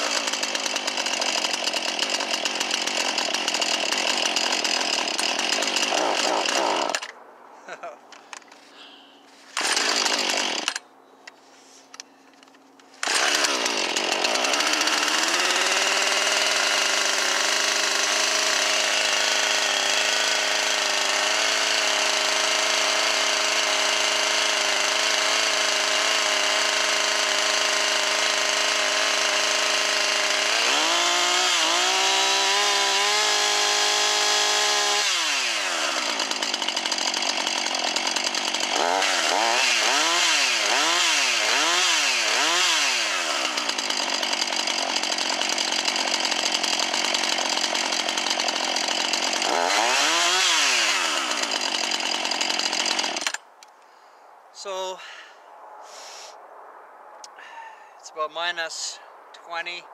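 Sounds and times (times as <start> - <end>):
chainsaw starting and idling: 0.0 - 7.2, 9.4 - 10.9, 12.5 - 53.8.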